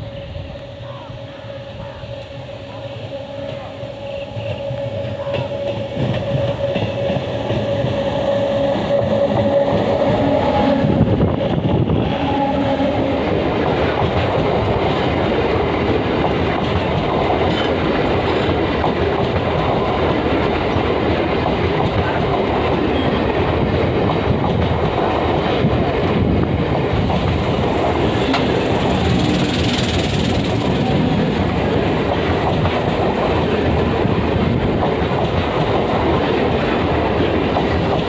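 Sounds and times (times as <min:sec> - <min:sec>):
train wheels rushing over rails: 0:00.0 - 0:38.0.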